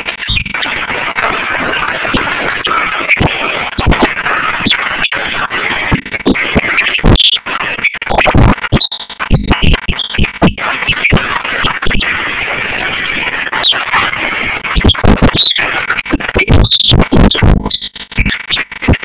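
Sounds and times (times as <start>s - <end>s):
distorted loud dance music: 0.0s - 19.0s.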